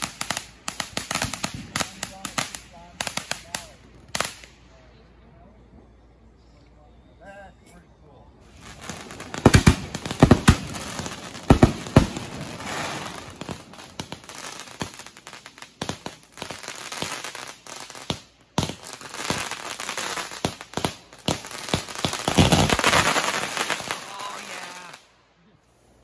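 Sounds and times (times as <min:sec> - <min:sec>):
fireworks bangs: 0:00.0 - 0:04.6, 0:08.5 - 0:25.0
fireworks popping and crackling: 0:00.0 - 0:04.6, 0:08.5 - 0:25.0.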